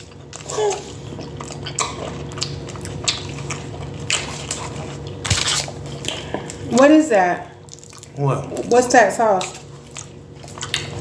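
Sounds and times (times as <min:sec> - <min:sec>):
person chewing food: 0:00.0 - 0:08.8, 0:09.4 - 0:11.0.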